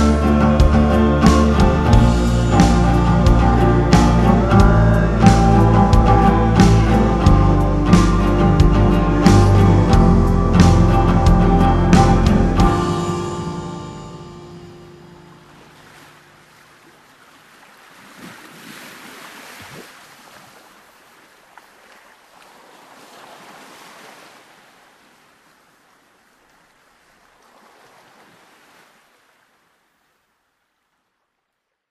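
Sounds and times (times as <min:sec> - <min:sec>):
sea waves washing: 0:00.0 - 0:30.4.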